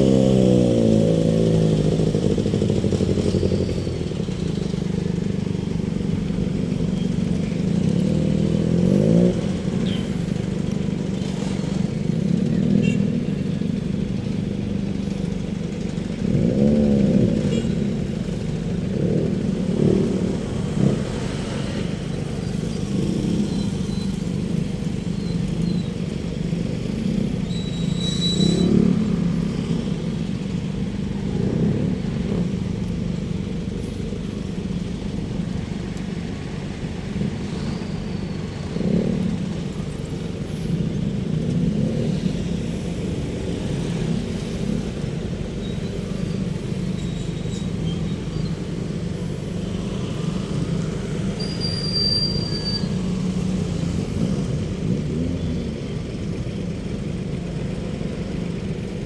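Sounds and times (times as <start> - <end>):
car and motorcycle engines passing: 0.0 - 59.0.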